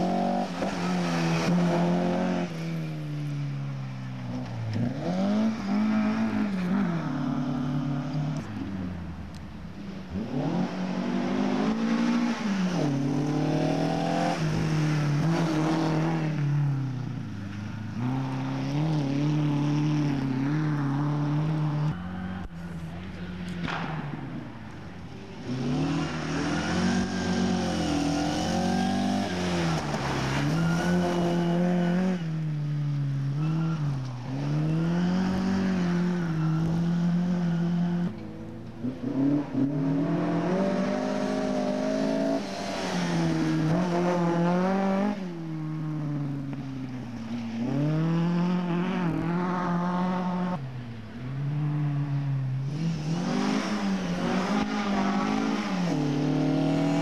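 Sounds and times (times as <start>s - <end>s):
rally car engines at full throttle: 0.0s - 57.0s.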